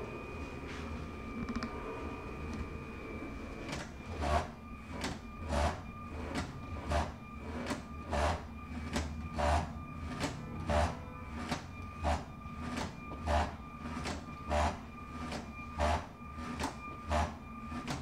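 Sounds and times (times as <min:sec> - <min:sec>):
faint motor whine: 0:00.0 - 0:18.0.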